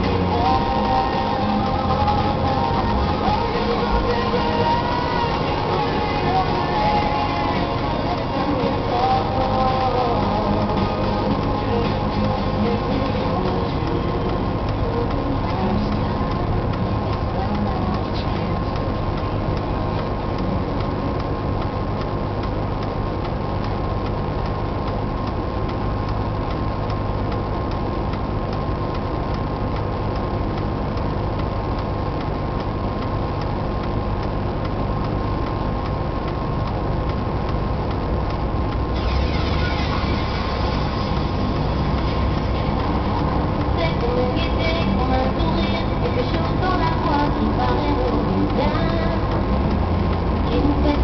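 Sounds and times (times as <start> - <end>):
car engine idle rumble: 0.0 - 39.0, 39.6 - 51.0
cars driving slowly past: 0.0 - 51.0.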